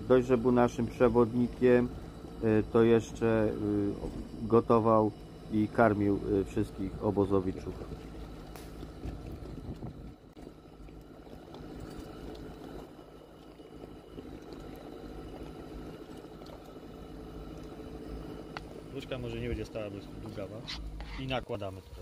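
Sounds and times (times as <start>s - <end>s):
motor hum: 0.0s - 22.0s.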